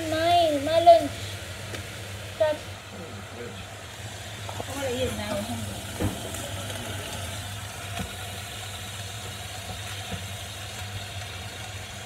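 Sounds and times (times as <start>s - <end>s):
food simmering and sizzling in a pan: 0.0s - 12.0s.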